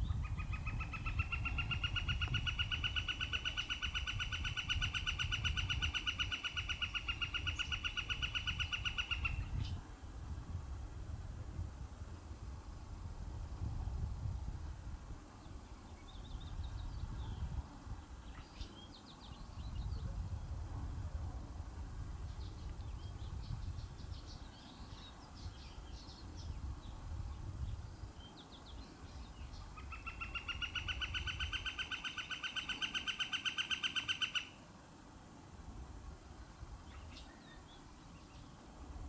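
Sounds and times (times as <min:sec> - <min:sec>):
wind noise: 0:00.0 - 0:31.8.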